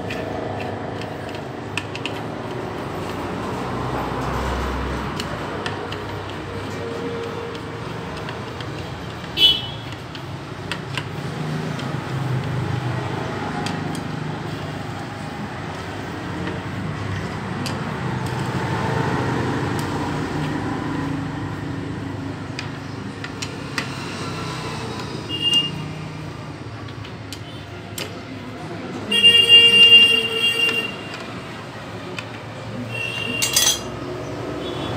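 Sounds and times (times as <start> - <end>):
road traffic and engine noise: 0.0 - 34.9.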